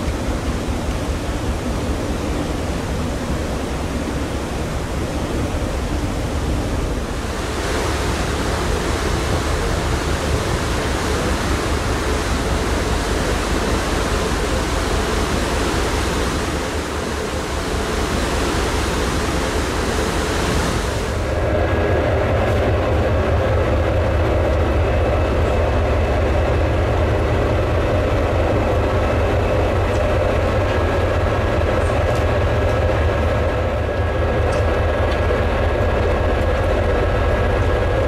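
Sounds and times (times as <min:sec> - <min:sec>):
wind and sea rushing: 0:00.0 - 0:38.0.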